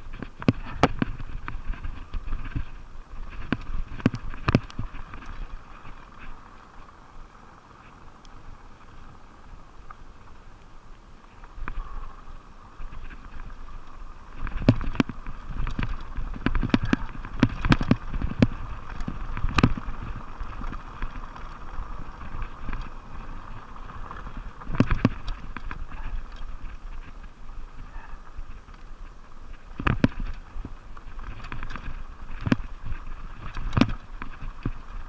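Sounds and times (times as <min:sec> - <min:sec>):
bike knocking and rattling: 0:00.0 - 0:35.0
bike tyre rumble: 0:00.0 - 0:35.0
wind noise: 0:00.0 - 0:35.0.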